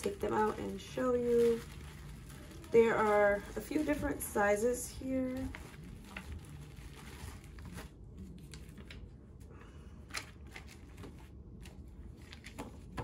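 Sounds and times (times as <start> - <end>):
plastic pouches rustling: 0.0 - 9.1, 10.1 - 13.0.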